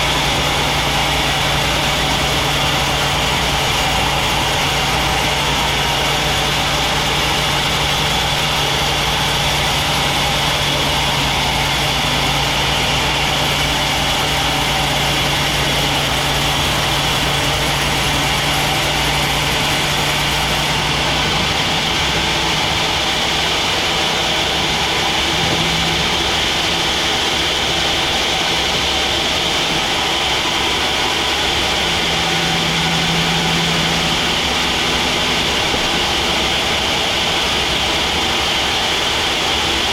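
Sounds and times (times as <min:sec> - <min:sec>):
high noisy whine: 0:00.0 - 0:39.9
motor hum: 0:00.0 - 0:39.9.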